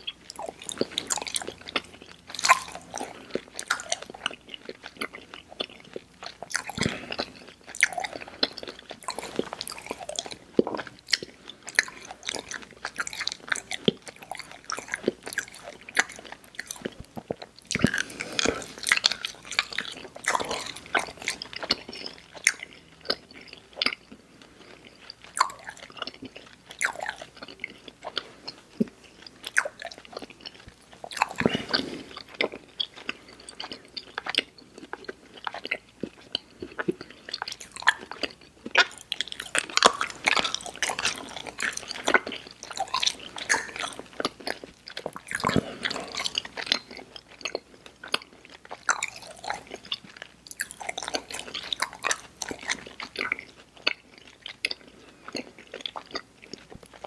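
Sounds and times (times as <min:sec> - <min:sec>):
chewing chewy candy: 0:00.0 - 0:57.0.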